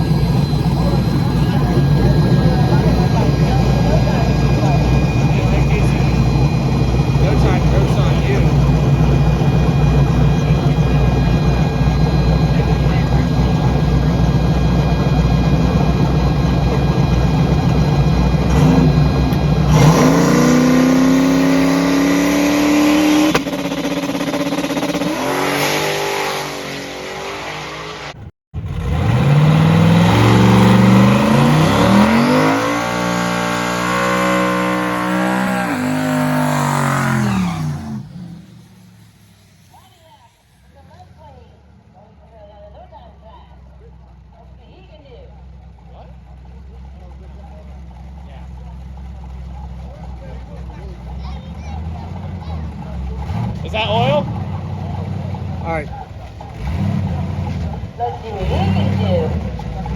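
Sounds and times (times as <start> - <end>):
car engine accelerating: 0.0 - 59.9
car engine rumbling: 0.0 - 59.9.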